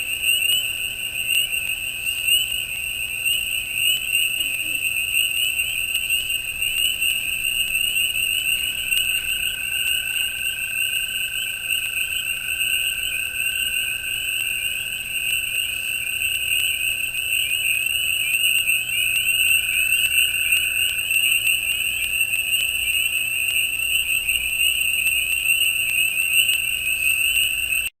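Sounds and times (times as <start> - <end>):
frogs peeping in chorus: 0.0 - 27.9
high-pitched insect trill: 0.0 - 27.9.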